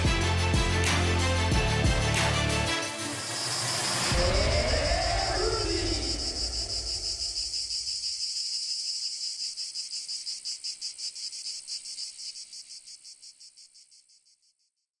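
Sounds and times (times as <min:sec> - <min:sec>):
insects chirping trill: 0:02.6 - 0:14.9.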